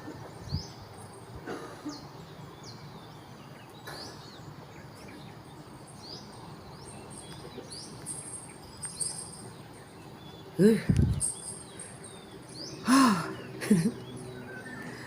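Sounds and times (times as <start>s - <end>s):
bird chirping: 0.0s - 15.0s
faint outdoor background noise: 0.0s - 15.0s.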